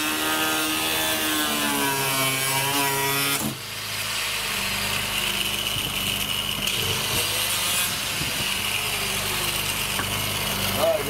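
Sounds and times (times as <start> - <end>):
angle grinder grinding: 0.0 - 11.0.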